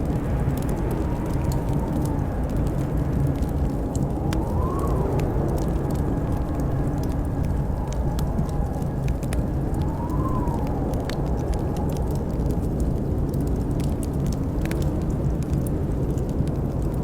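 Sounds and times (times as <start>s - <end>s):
blizzard wind howling: 0.0s - 17.0s
fireplace crackling and popping: 0.0s - 17.0s.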